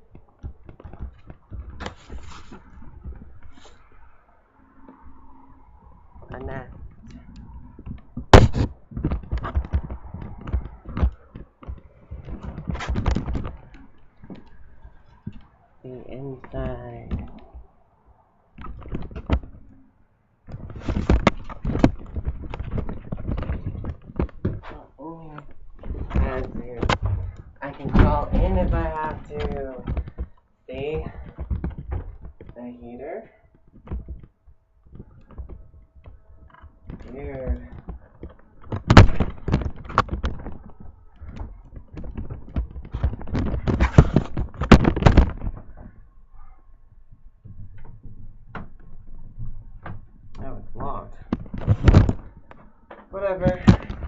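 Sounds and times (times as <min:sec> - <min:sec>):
scrapes: 0:00.0 - 0:17.7, 0:20.5 - 0:46.6.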